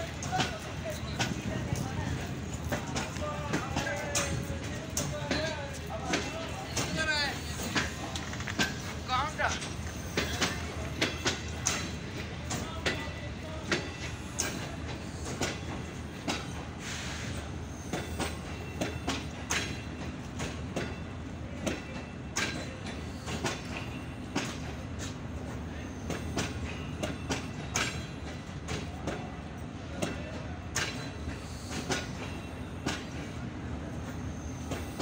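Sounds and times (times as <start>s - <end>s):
wheels clicking over rail joints: 0.0s - 17.2s, 17.9s - 33.4s
train coaches rumbling on rails: 0.0s - 35.0s.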